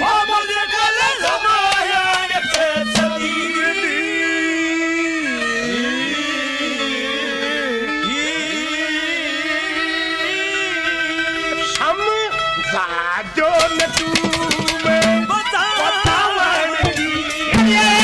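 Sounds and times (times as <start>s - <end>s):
folk music with harmonium: 0.0s - 18.0s.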